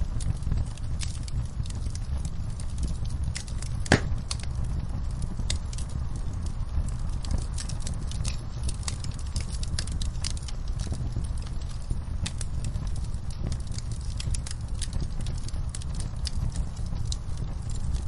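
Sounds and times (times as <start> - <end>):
campfire crackling: 0.0 - 18.0
low steady rumble: 0.0 - 18.0.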